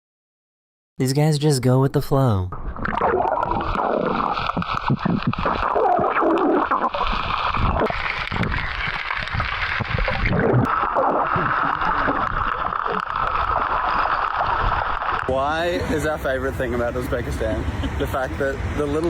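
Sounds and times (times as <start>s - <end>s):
fast-flowing water rushing: 3.0s - 19.0s.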